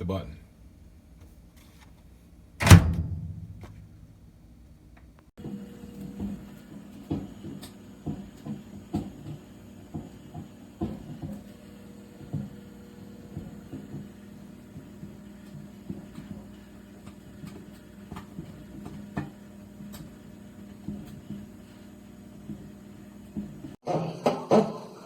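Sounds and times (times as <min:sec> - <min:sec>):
steady low hum: 0:02.4 - 0:23.8.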